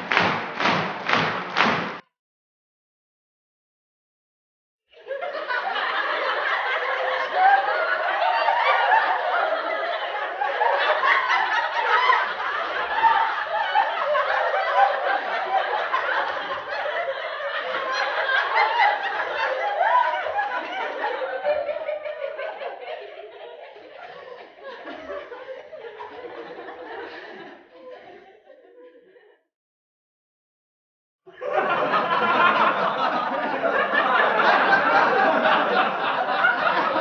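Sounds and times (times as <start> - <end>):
crowd laughing: 0.0 - 2.0, 4.9 - 29.5, 31.3 - 37.0.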